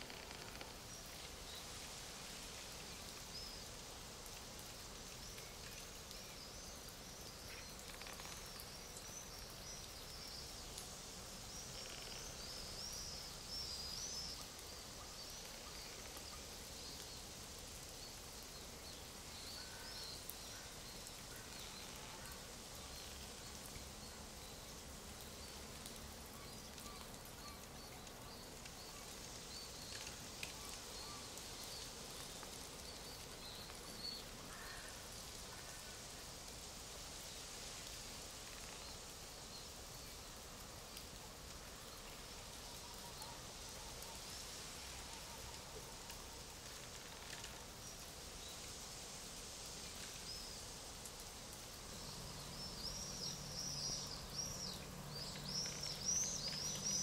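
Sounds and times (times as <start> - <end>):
soft steady background hiss: 0.0 - 57.0.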